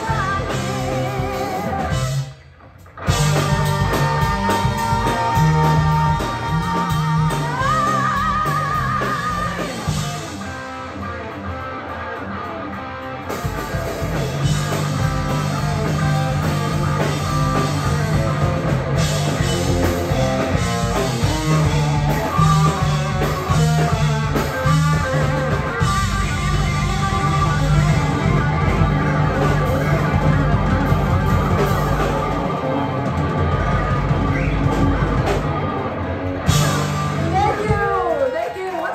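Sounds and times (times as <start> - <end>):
bass guitar: 0.0 - 38.9
drum kit: 0.0 - 38.9
electric guitar: 0.0 - 38.9
keyboard: 0.0 - 38.9.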